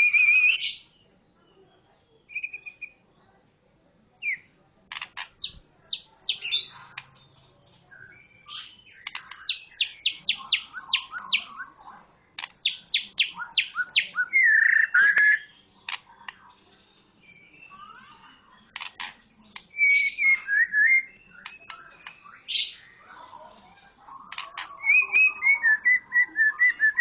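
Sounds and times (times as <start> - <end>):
bird chirping: 0.0 - 3.2, 4.2 - 27.0.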